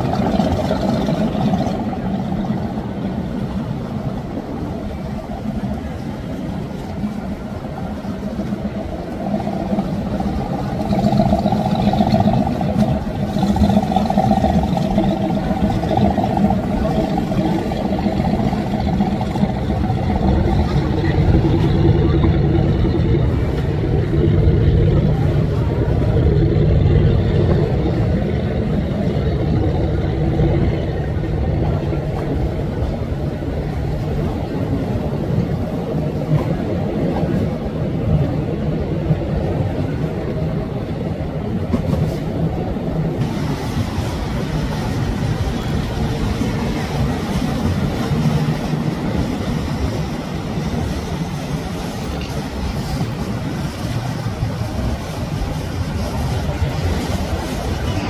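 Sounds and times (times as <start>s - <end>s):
boat engines droning: 0.0s - 58.0s.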